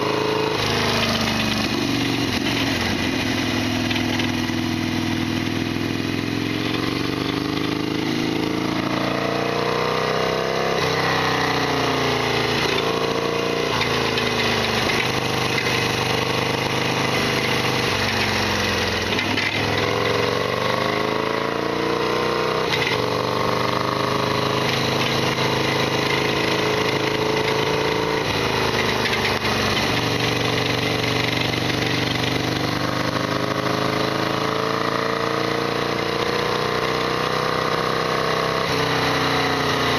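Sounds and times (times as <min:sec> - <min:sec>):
rattly motorcycle engine: 0:00.0 - 0:39.9.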